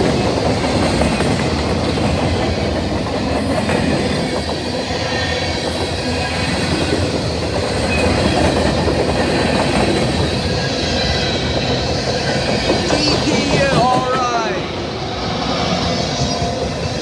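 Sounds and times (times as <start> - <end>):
rumble of train wheels on rails: 0.0 - 17.0.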